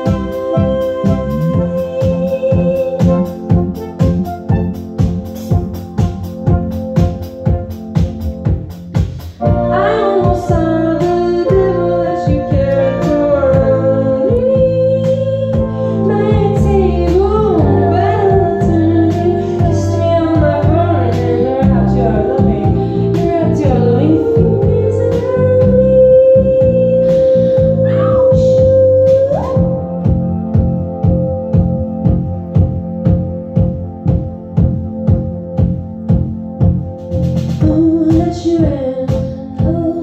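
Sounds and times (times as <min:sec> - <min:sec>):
electric bass: 0:00.0 - 0:40.0
steady ticking beat: 0:00.0 - 0:40.0
synthesizer keyboards: 0:00.0 - 0:40.0.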